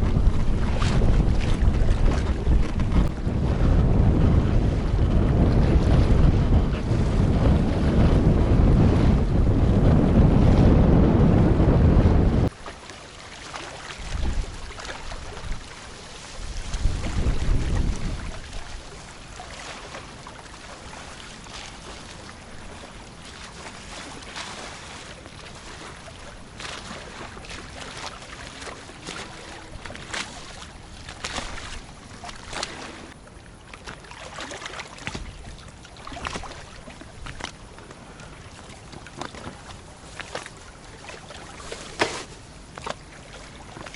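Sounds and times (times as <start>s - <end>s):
wind rumbling on microphone: 0.0s - 12.6s, 13.8s - 43.9s
water splashing around a boat: 0.0s - 43.9s.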